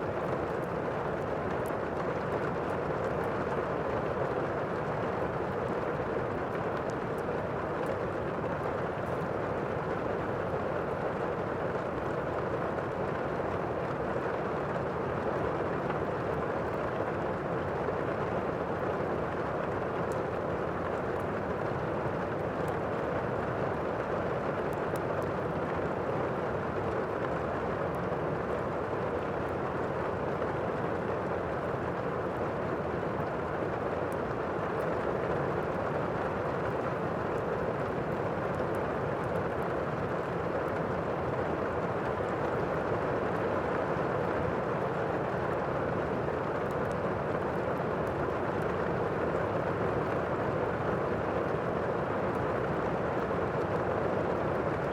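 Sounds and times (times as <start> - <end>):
muffled rain: 0.0 - 54.9
wood fire crackling: 0.1 - 54.9.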